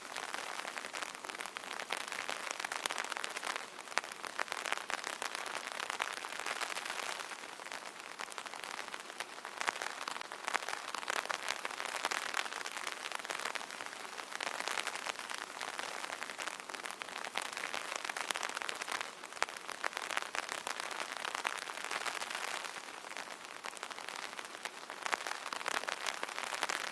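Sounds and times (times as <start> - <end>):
light rain on an umbrella: 0.0 - 26.9.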